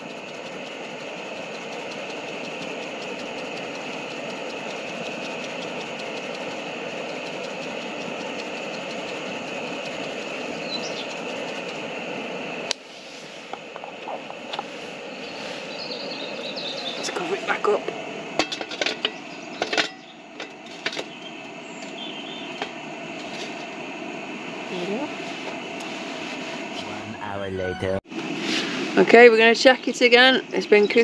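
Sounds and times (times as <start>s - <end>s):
gas burner roaring: 0.0s - 31.0s.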